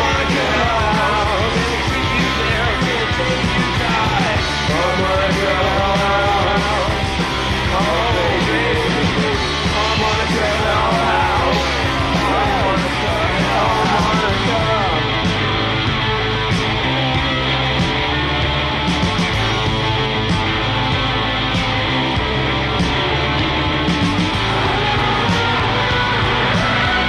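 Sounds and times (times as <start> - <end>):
punk rock band playing: 0.0 - 27.0
wavering lead guitar line: 0.0 - 27.0.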